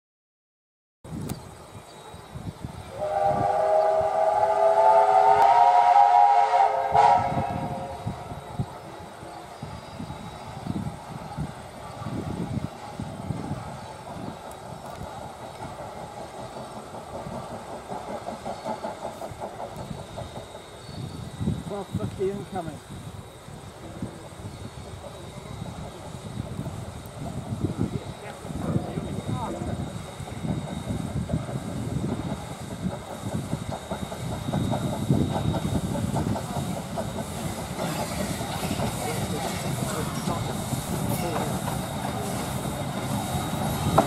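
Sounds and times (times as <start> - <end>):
wheels rumbling on rails: 1.1 - 44.0
steam locomotive chuffing: 2.0 - 44.0.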